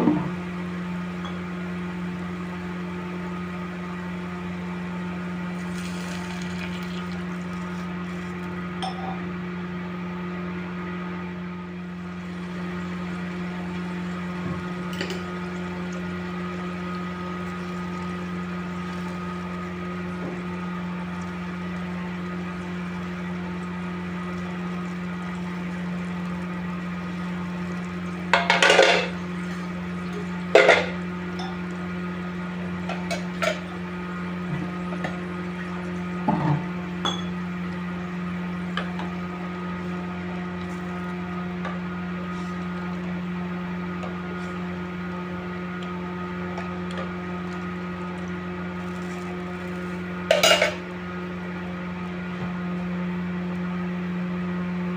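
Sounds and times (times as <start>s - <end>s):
steady hum: 0.0s - 54.9s.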